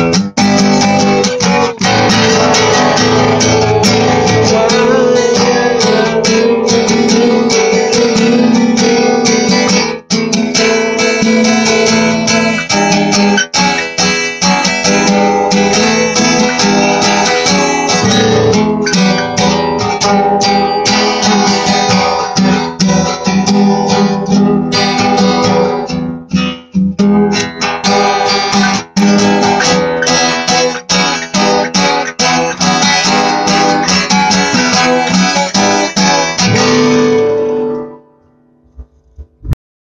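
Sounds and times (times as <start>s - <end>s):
acoustic guitar chords: 0.0s - 39.6s.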